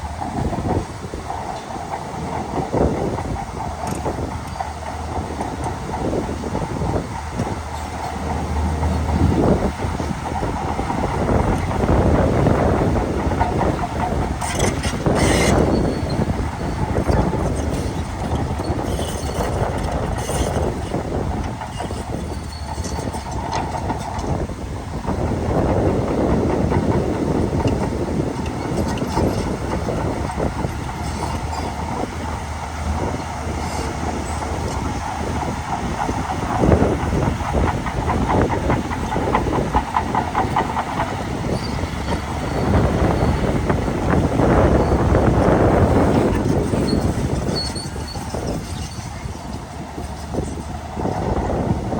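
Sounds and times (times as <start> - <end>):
bulldozer diesel engine rumble: 0.0 - 51.9
steel tracks clanking: 0.0 - 51.9.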